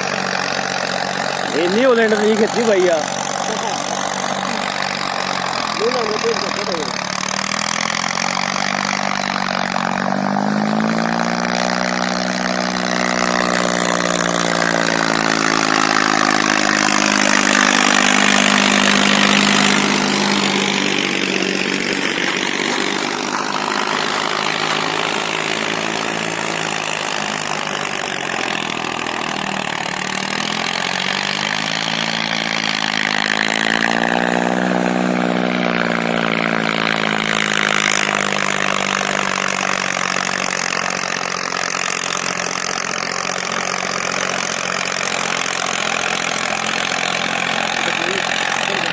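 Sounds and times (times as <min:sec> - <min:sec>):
tractor diesel engine working: 0:00.0 - 0:48.9.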